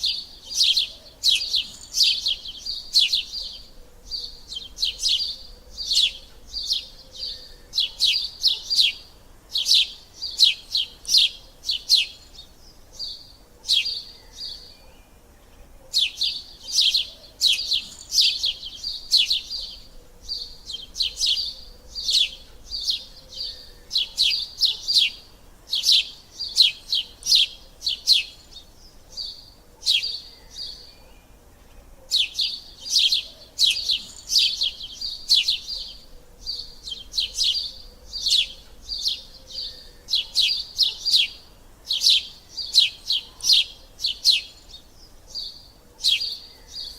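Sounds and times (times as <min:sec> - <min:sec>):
sparrow chirping: 0:00.0 - 0:46.9.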